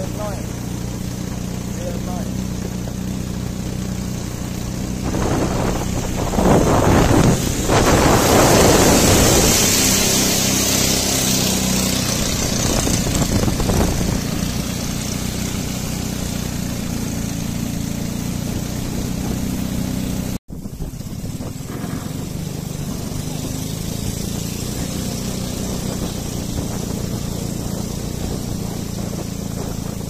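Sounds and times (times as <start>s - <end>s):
motorboat engine running: 0.0s - 30.0s
water rushing past: 0.0s - 30.0s
wind: 0.0s - 30.0s.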